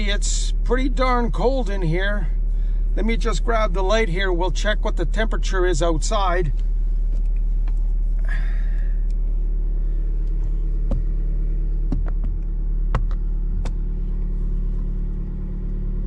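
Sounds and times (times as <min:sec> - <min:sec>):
low rumble inside a car: 0:00.0 - 0:16.0.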